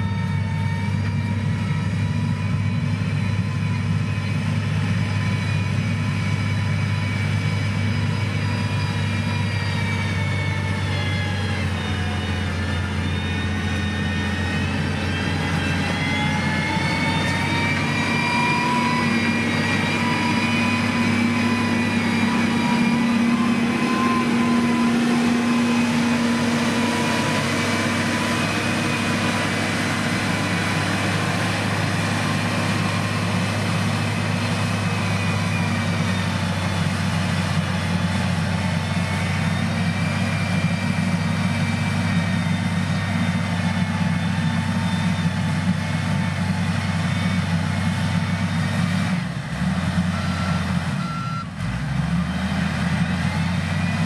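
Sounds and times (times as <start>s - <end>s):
high whine: 0.0s - 49.4s
heavy diesel engine running: 0.0s - 54.0s.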